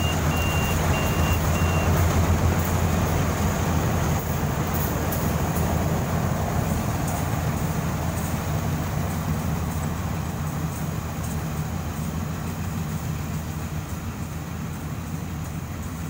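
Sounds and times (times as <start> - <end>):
combine harvester engine droning: 0.0 - 16.0.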